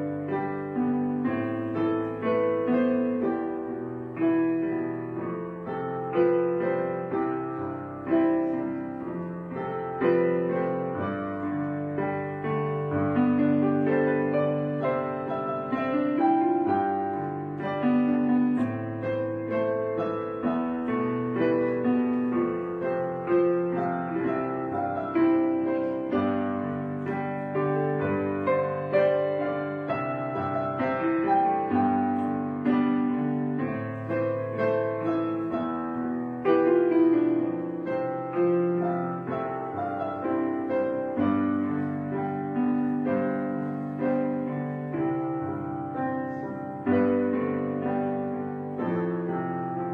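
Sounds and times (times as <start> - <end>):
piano music: 0.0 - 49.9.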